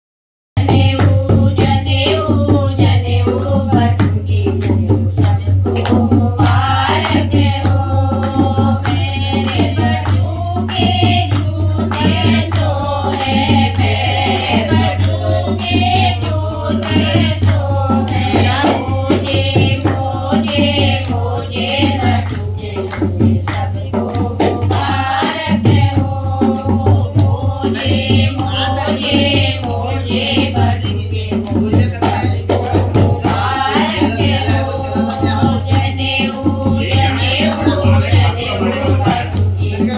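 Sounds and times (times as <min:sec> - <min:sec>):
folk singing: 0:00.6 - 0:39.9
steady drum beat: 0:00.6 - 0:39.9.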